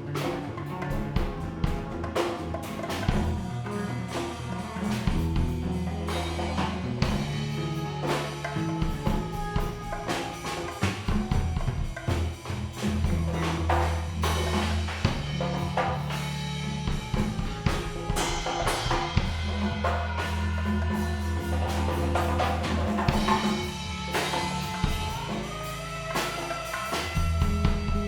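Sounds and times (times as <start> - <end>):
live band playing: 0.0 - 28.0
sustained bass line: 0.0 - 28.0.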